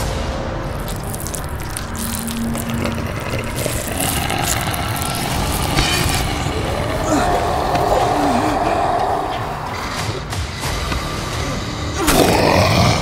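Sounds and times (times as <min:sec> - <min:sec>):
crackles and clicks: 0:00.0 - 0:13.0
low rumble: 0:00.3 - 0:11.5.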